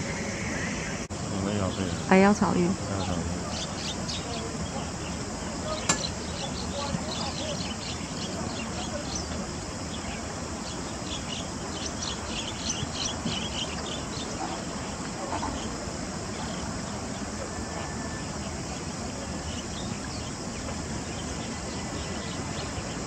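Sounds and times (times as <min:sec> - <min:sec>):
river hiss: 0:00.0 - 0:23.0.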